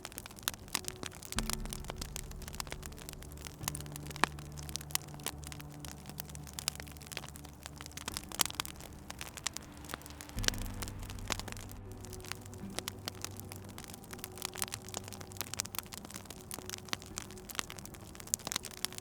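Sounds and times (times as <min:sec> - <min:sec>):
low steady tones: 0:00.0 - 0:19.0
soft hiss: 0:00.0 - 0:19.0
wood fire crackling: 0:00.0 - 0:19.0.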